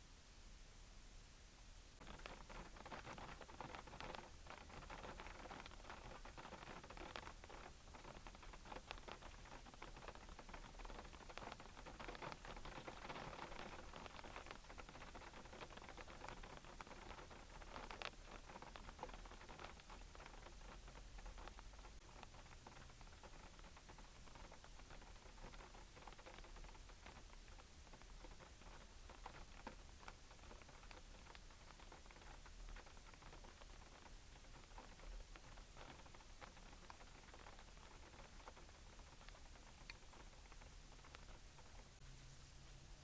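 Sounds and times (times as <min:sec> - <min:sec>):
light rain on car windshield: 0:01.9 - 0:43.0.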